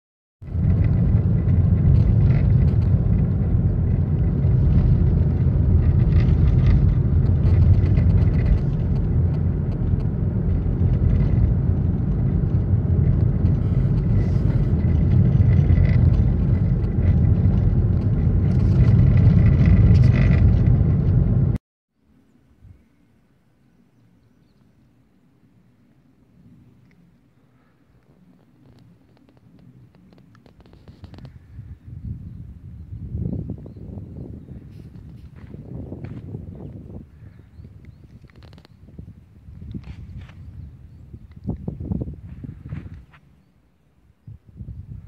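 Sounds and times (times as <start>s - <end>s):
car engine and road rumble: 0.4s - 45.0s.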